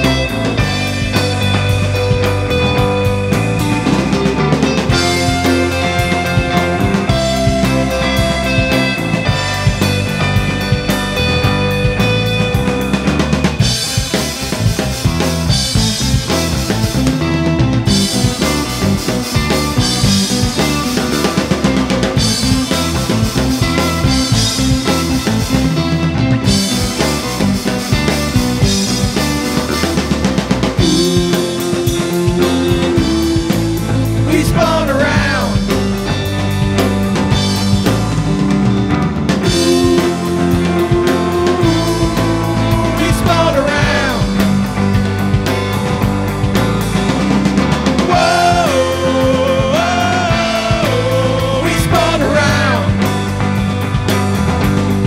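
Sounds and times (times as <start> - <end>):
bass guitar: 0.0 - 55.0
bending guitar notes: 0.0 - 55.0
drum kit: 0.0 - 55.0
electric guitar: 0.0 - 55.0
live rock band playing: 0.0 - 55.0.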